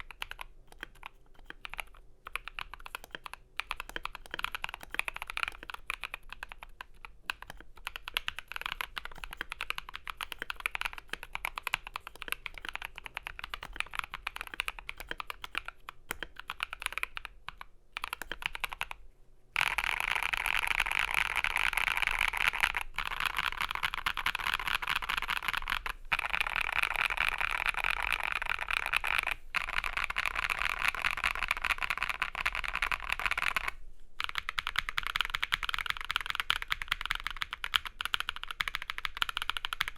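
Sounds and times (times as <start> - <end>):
typing on mechanical keyboard: 0.0 - 19.0, 19.6 - 39.9.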